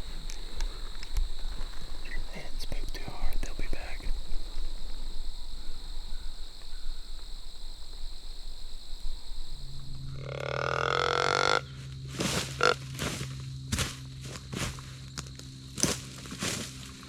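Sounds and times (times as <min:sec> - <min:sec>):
crunching steps or rustles: 0:00.0 - 0:10.2, 0:11.8 - 0:17.0.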